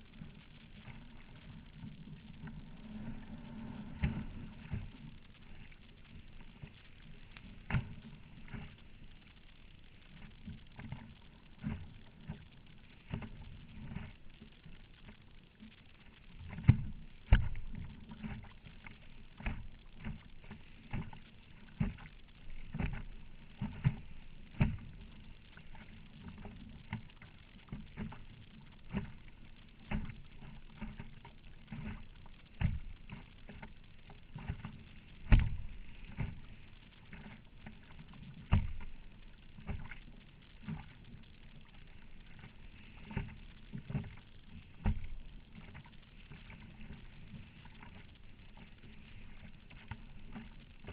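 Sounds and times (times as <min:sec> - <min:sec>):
water slapping against kayak hull: 0:00.0 - 0:09.1, 0:16.4 - 0:50.9.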